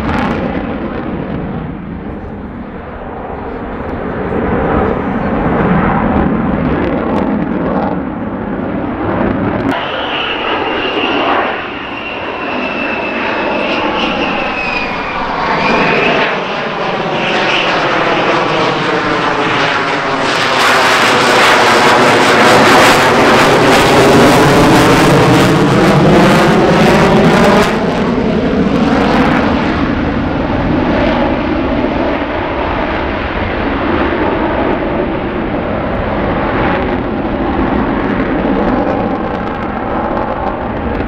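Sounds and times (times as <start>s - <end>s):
jet engine roar with high whine: 0.0s - 41.0s.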